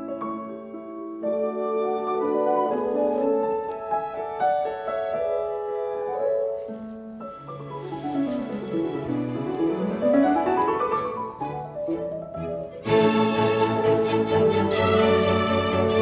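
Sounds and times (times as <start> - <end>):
instrumental piano music: 0.0 - 16.0.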